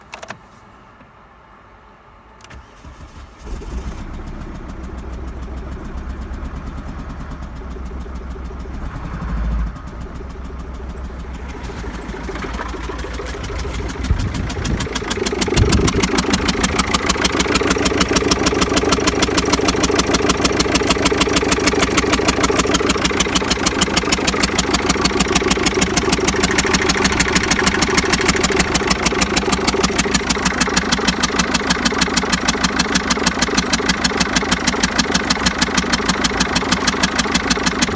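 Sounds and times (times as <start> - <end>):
diesel engine cranking: 2.4 - 37.9
diesel engine idling: 2.9 - 37.9.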